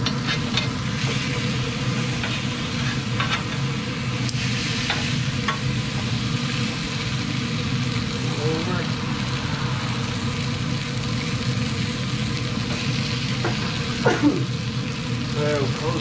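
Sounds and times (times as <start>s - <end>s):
low hum: 0.0s - 15.2s
meat sizzling on grill: 0.0s - 16.0s.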